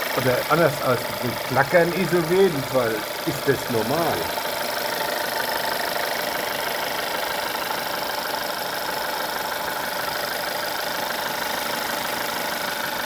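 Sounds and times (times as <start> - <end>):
petrol engine idling with clacking: 0.0 - 13.0.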